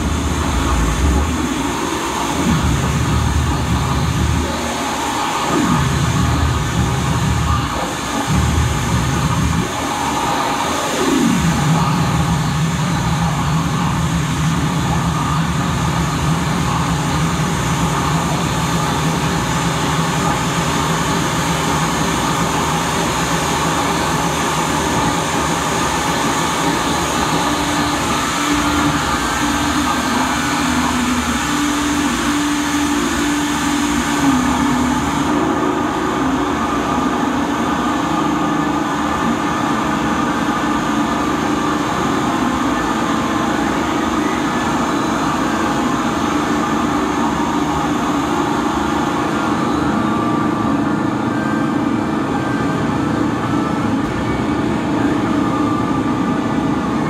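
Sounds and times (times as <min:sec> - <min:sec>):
harsh noise music: 0:00.0 - 0:50.1.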